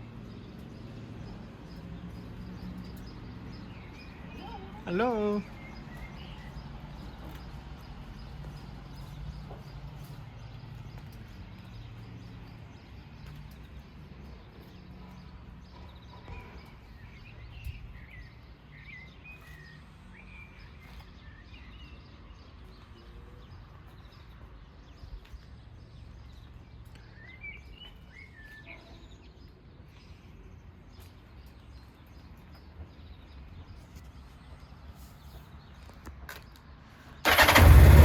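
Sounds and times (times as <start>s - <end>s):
birds chirping: 0.1s - 32.4s, 37.2s - 38.0s.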